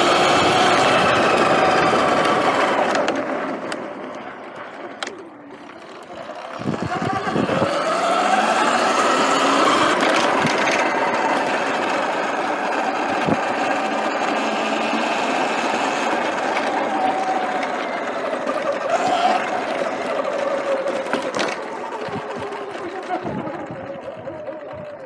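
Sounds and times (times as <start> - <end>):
electric motor whine: 0.0 - 3.8, 5.3 - 24.9
wind and tyre rush: 0.0 - 4.9, 6.2 - 24.9.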